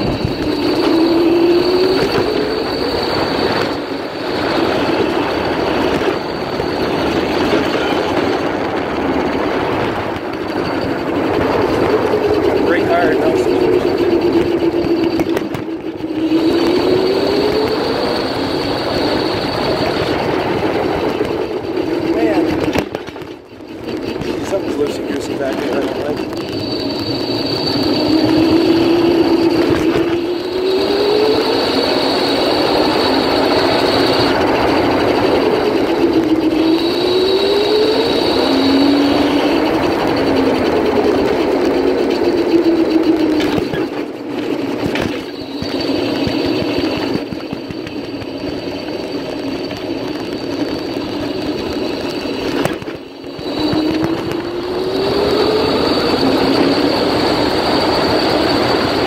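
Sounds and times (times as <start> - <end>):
electric motor whining: 0.0 - 59.0
tyre and wind rushing noise: 0.0 - 59.0.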